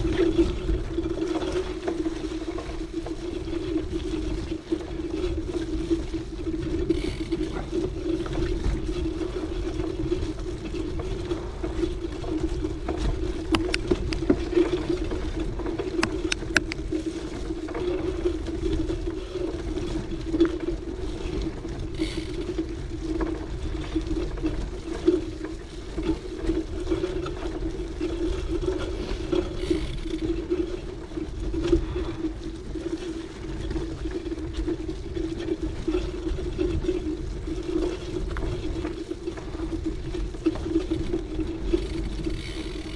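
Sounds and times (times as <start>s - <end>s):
bike clicks and rattles: 0.0s - 42.9s
bike tyres rumbling on dirt: 0.0s - 42.9s.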